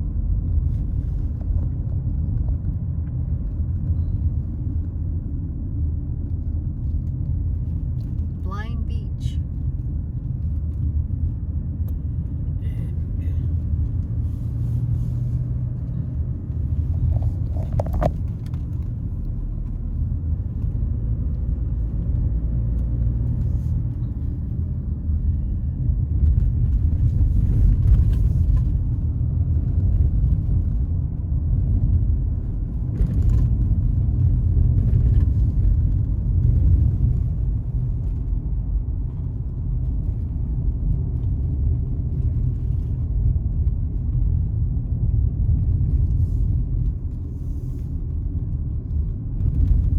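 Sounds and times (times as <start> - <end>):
car driving rumble inside cabin: 0.0 - 49.9.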